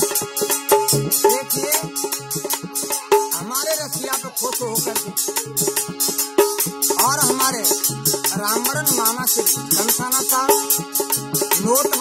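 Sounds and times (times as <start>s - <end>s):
dholak drum beating: 0.0s - 12.0s
harmonium notes: 0.0s - 12.0s.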